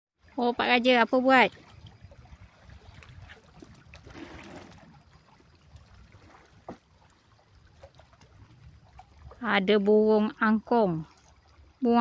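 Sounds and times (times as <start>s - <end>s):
water trickling and lapping: 0.2s - 12.0s.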